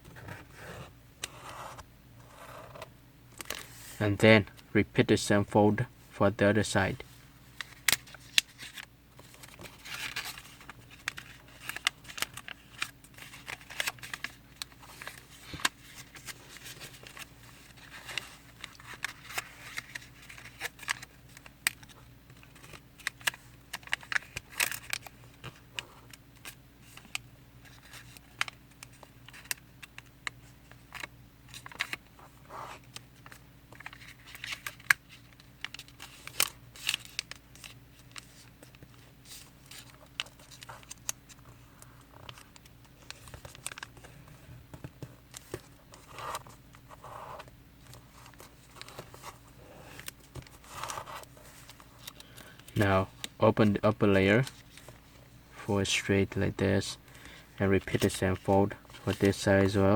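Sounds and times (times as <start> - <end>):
faint steady hum: 0.0 - 59.9
paper rustling while folded: 7.5 - 55.2, 57.2 - 59.9.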